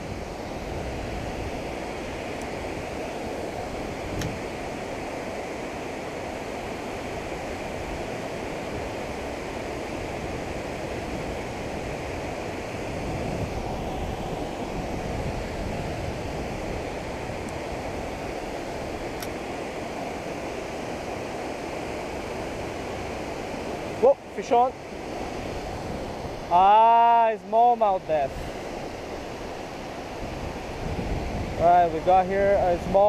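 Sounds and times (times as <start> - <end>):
river water rushing over a dam: 0.0 - 33.0.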